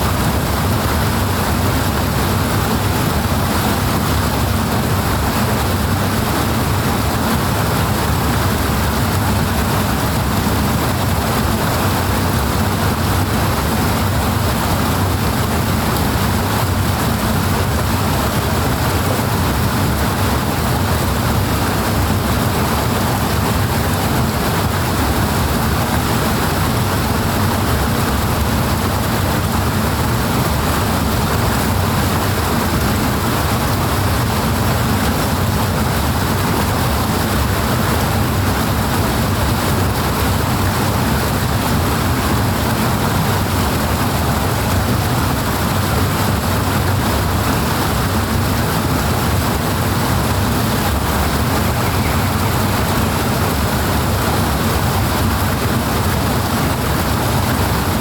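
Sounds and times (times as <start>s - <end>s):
rushing water roar: 0.0s - 58.0s.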